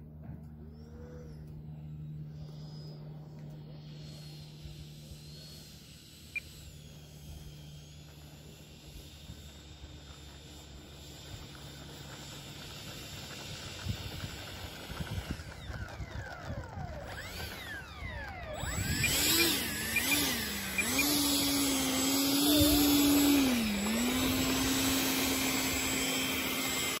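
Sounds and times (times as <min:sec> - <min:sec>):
electric ducted fan whining: 0:00.0 - 0:27.0.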